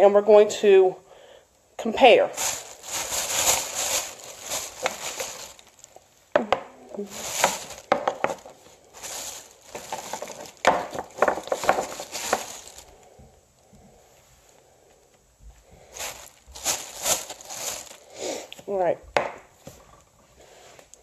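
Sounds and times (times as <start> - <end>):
objects rustling and clattering: 2.4 - 21.0.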